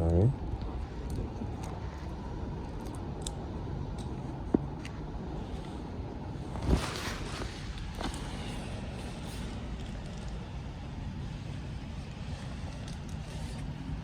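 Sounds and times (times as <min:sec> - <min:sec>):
low rumble with hiss: 0:00.0 - 0:14.0.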